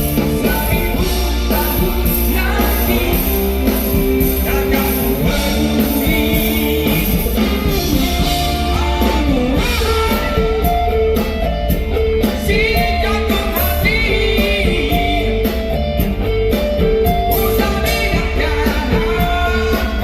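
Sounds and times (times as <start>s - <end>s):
drums: 0.0s - 20.0s
electric guitar: 0.0s - 20.0s
heavy bass: 0.0s - 20.0s
person singing: 0.0s - 20.0s.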